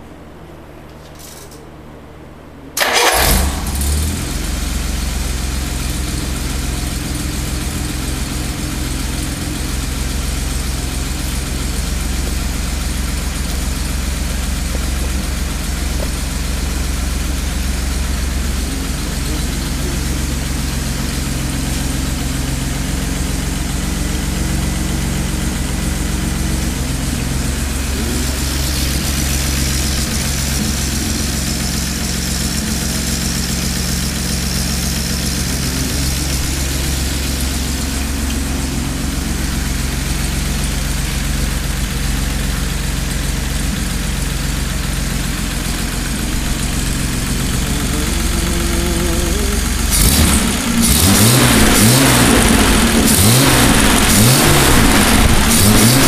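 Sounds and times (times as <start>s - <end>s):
car engine starting and idling: 2.8s - 56.0s.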